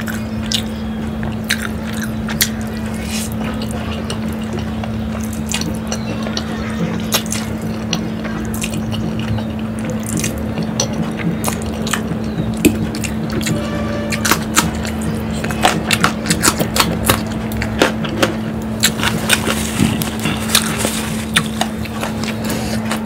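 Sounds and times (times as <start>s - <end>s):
noodles slurped and chewed: 0.0s - 23.0s
steady low hum: 0.0s - 23.0s.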